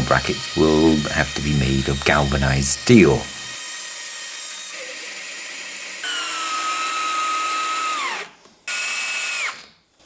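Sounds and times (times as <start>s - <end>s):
bandsaw running: 0.0s - 9.8s
cordless drill driving screws: 0.0s - 9.8s.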